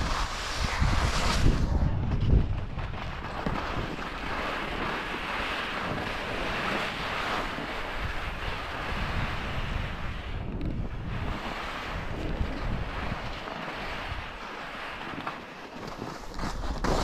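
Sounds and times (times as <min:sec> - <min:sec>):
wind buffeting microphone: 0:00.0 - 0:15.3
skis scraping over snow: 0:00.0 - 0:17.0.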